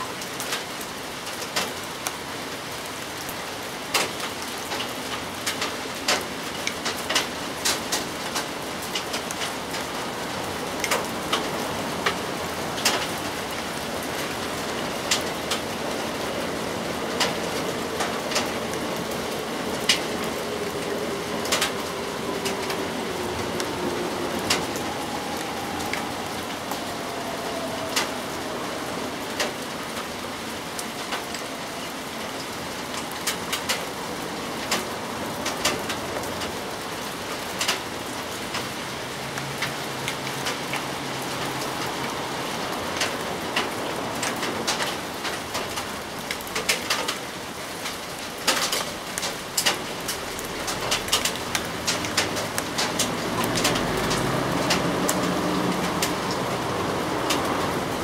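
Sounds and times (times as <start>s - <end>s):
large raindrops tapping: 0.0s - 58.0s
steady rain falling: 0.0s - 58.0s.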